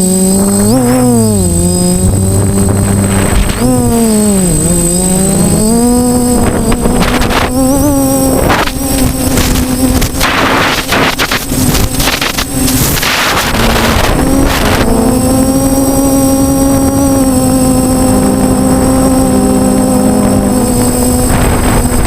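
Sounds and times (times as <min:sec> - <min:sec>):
drone motors humming: 0:00.0 - 0:22.0
wind rushing over microphone: 0:00.0 - 0:22.0.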